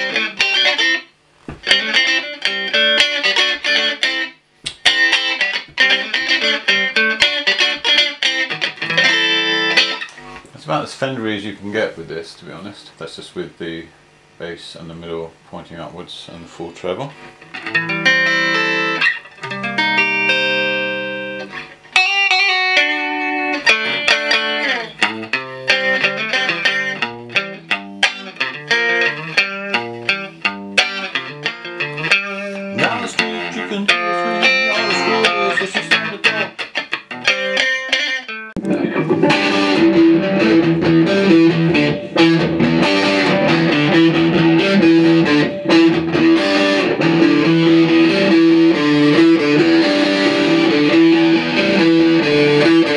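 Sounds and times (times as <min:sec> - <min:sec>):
electric guitar notes and chords: 0:00.0 - 0:10.5, 0:17.2 - 0:52.9.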